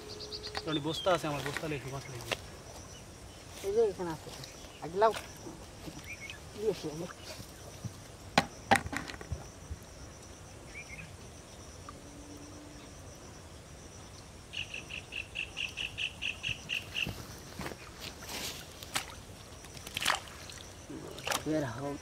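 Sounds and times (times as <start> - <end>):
insect chorus hum: 0.0 - 22.0
rhythmic insect chirping: 0.0 - 22.0.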